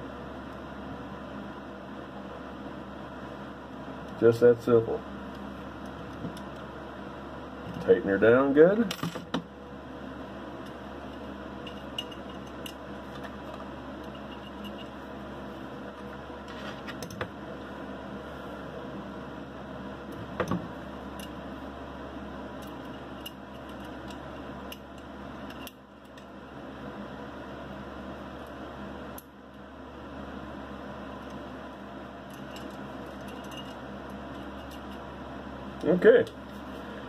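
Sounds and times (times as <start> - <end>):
box fan whirring: 0.0 - 37.0.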